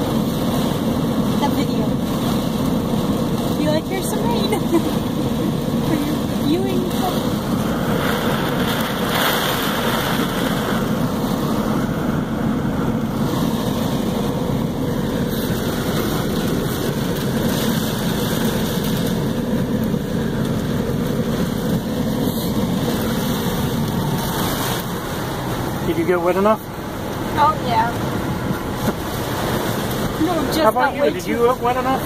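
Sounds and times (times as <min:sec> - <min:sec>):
heavy rain on car roof: 0:00.0 - 0:32.0.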